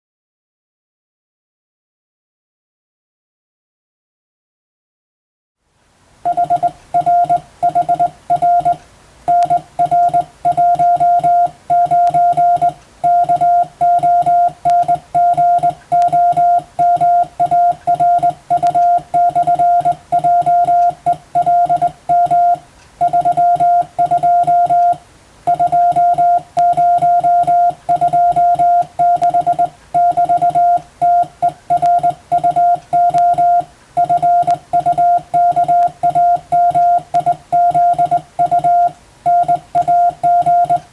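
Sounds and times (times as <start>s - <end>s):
morse code beeps: 6.3s - 40.9s.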